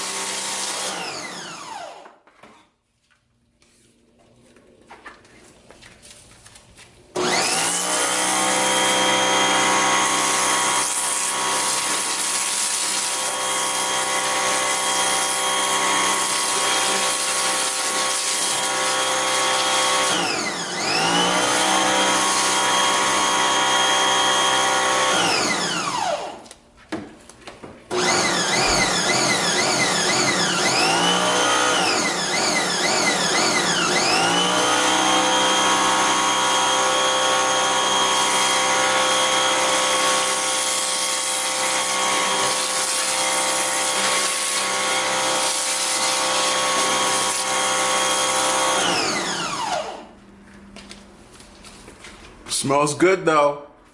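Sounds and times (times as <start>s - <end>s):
pressure washer motor running: 0.0s - 2.0s, 7.2s - 26.4s, 27.9s - 50.1s.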